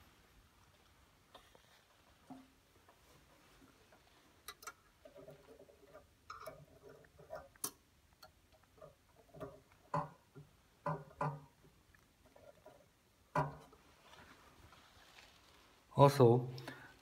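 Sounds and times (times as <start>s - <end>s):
faint handling clicks and knocks: 0.6s - 15.6s.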